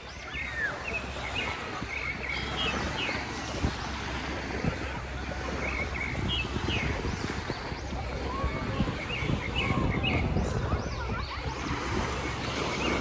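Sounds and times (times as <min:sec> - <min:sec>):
distant calls and voices: 0:00.0 - 0:13.0
sea surf: 0:00.0 - 0:13.0
wind: 0:00.0 - 0:13.0.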